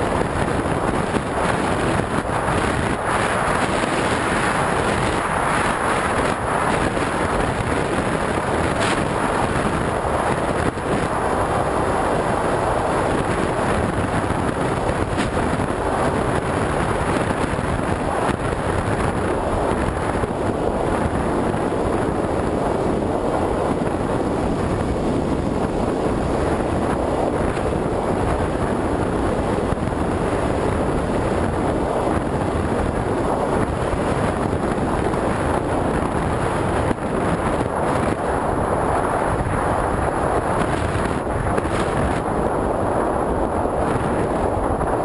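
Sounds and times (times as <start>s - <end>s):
wind buffeting camera: 0.0s - 45.0s.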